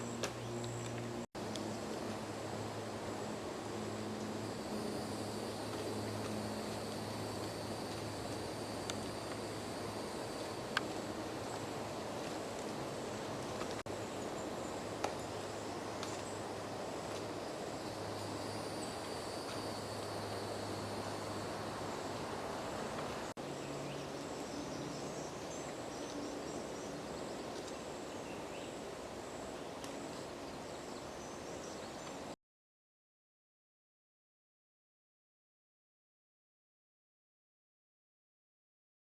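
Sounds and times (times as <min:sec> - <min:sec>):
woodland background noise: 0:00.0 - 0:32.4.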